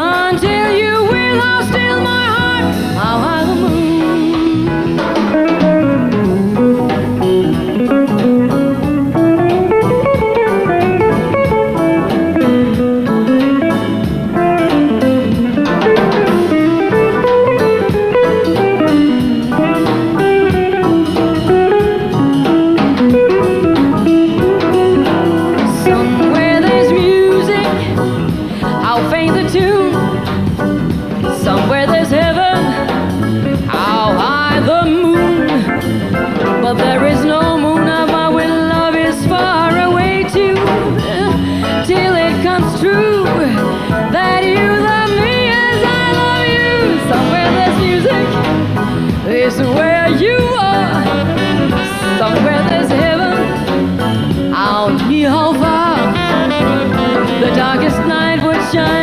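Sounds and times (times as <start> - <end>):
electric guitar lead line: 0.0 - 59.0
jazz band playing: 0.0 - 59.0.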